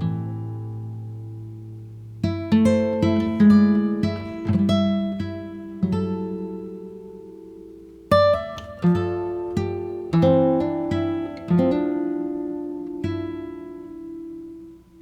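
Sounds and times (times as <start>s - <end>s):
acoustic guitar played slowly: 0.0s - 15.0s.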